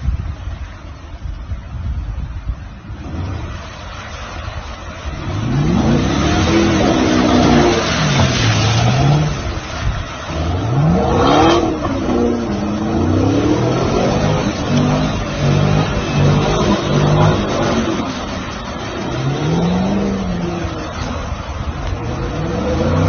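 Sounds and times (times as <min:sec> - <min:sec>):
water hiss: 0:00.0 - 0:23.0
car engine revving: 0:02.8 - 0:23.0.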